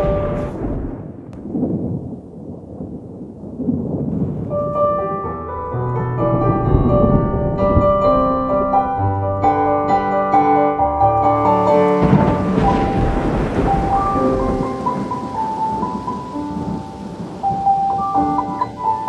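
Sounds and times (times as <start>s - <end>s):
piano music: 0.0s - 0.7s, 4.2s - 19.0s
low thunder rumble: 0.0s - 10.5s, 11.2s - 19.0s.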